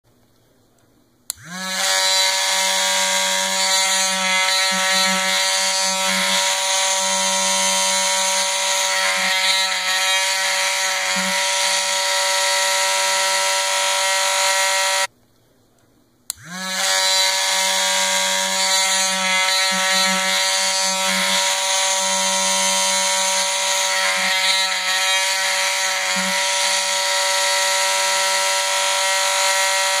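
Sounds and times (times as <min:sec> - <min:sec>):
rotary grinder motor whine: 0:01.4 - 0:15.1, 0:16.4 - 0:30.0.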